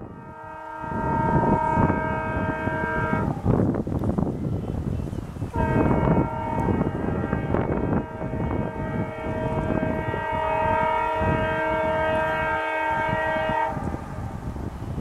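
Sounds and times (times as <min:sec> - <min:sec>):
locomotive air horn blast: 0:00.0 - 0:03.7, 0:05.5 - 0:14.6
passing train rumble: 0:00.0 - 0:15.0.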